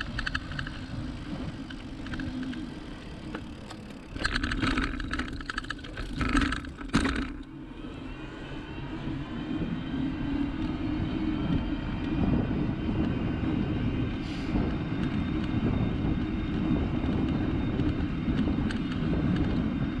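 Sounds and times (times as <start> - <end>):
bike tyres rolling on asphalt: 0.0 - 20.0.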